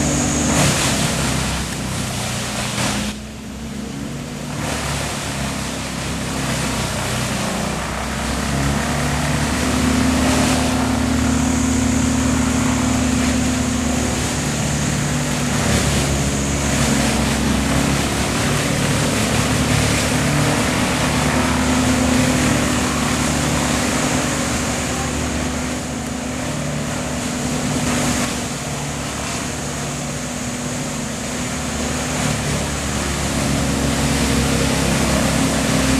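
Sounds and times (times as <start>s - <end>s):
noisy rush of wood chipper: 0.0s - 35.9s
wood chipper engine drone: 0.0s - 35.9s.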